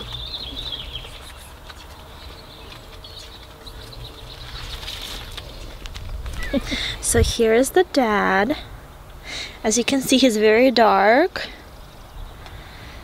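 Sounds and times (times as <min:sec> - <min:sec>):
faint birds chirping: 0:00.0 - 0:07.6, 0:08.2 - 0:13.0
steady low rumble: 0:00.0 - 0:10.8.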